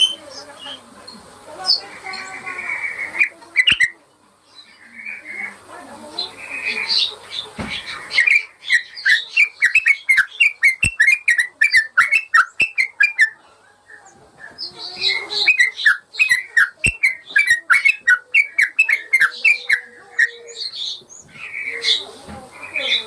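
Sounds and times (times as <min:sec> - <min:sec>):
bird chirping song: 0:00.0 - 0:23.0.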